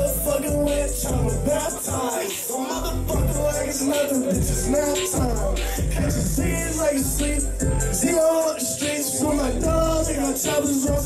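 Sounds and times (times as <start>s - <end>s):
hip-hop backing beat: 0.0s - 11.0s
man rapping into a microphone: 0.0s - 11.0s.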